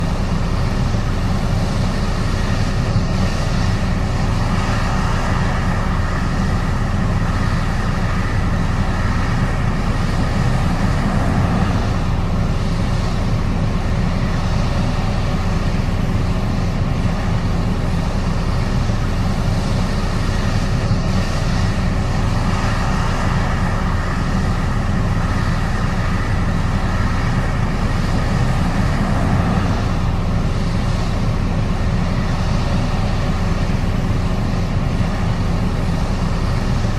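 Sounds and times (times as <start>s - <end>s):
combine harvester engine drone: 0.0s - 36.9s
faint steady whine: 0.0s - 36.9s.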